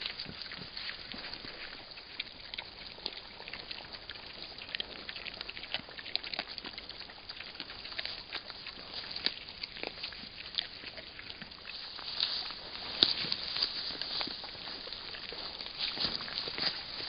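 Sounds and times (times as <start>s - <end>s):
rustling of dry leaves and twigs: 0.0s - 17.0s.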